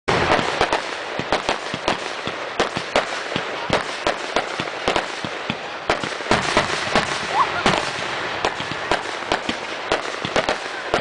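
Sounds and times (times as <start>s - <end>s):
fireworks bursting: 0.1s - 11.0s.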